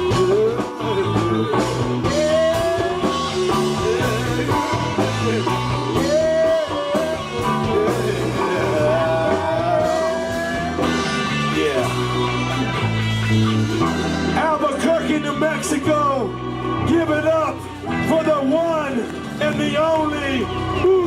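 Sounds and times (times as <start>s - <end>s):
live band playing slow blues rock: 0.0s - 21.0s.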